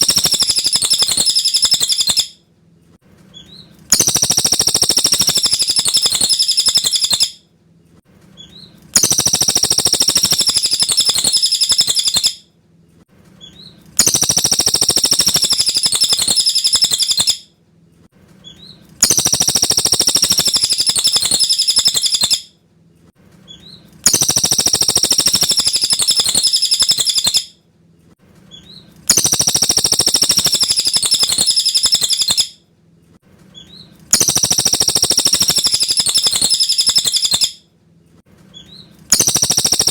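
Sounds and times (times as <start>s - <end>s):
bird singing trilled song: 0.0s - 2.4s, 3.4s - 7.4s, 8.4s - 12.4s, 13.4s - 17.5s, 18.4s - 22.5s, 23.5s - 27.5s, 28.5s - 32.6s, 33.6s - 37.6s, 38.6s - 39.9s
faint bird chips: 0.0s - 2.4s, 3.2s - 7.4s, 8.2s - 12.4s, 13.3s - 17.4s, 18.3s - 22.5s, 23.4s - 27.5s, 28.4s - 32.6s, 33.4s - 37.6s, 38.5s - 39.9s.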